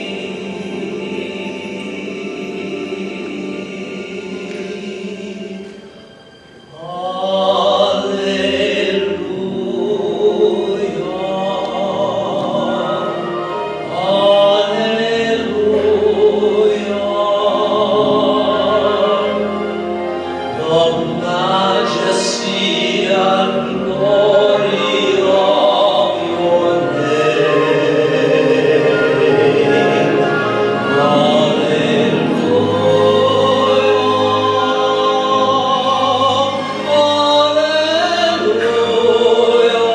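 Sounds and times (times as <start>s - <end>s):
man singing a hymn: 6.7s - 19.8s, 20.4s - 39.9s.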